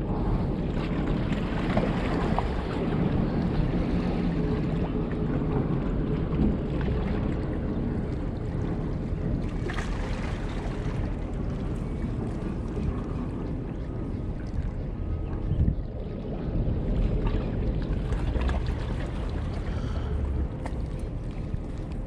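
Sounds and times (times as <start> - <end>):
water lapping against rocks: 0.0 - 22.0
wind buffeting microphone: 0.0 - 22.0.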